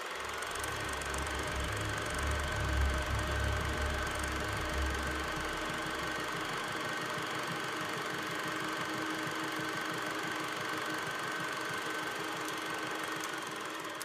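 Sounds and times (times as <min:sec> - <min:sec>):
machine hum: 0:00.0 - 0:13.8.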